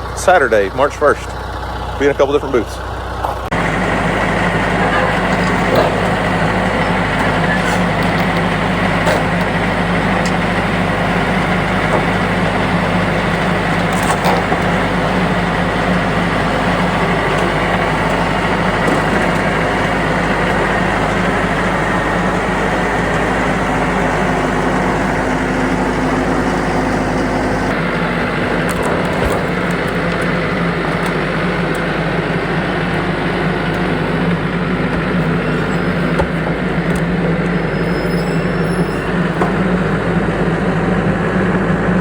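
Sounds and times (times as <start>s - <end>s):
road noise: 0.0s - 42.0s
vehicle engine hum: 0.0s - 42.0s.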